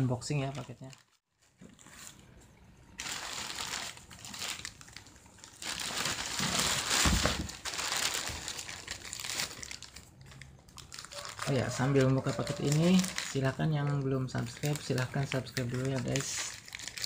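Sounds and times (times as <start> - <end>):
plastic mailer bag crinkling: 0.4 - 17.0.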